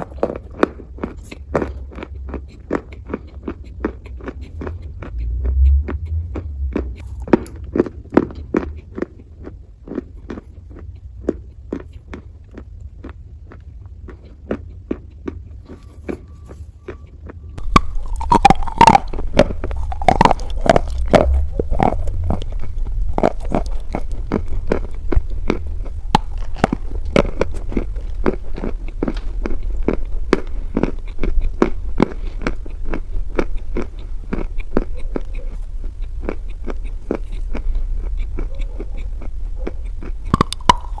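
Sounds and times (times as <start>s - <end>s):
chewing crunchy clay: 0.0s - 41.0s.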